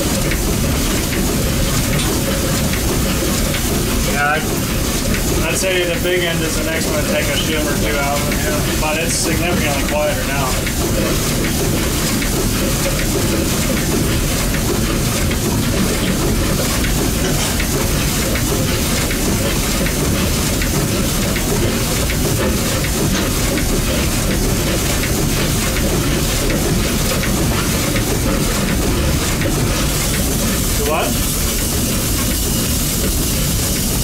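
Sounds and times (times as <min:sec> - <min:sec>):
steam engine clattering: 0:00.0 - 0:34.0.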